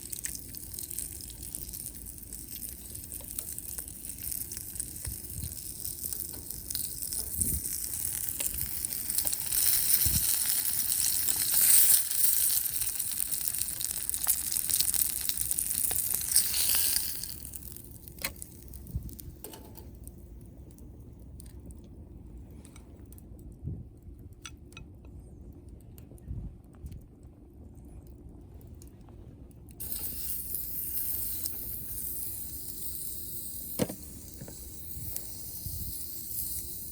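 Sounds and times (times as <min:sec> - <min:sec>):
campfire crackling: 0:00.0 - 0:36.9
fire popping: 0:00.0 - 0:36.9.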